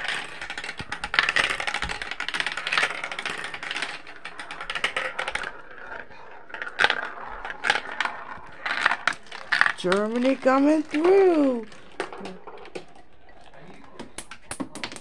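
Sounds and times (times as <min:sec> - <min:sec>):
marbles rolling down plastic run: 0:00.0 - 0:15.0.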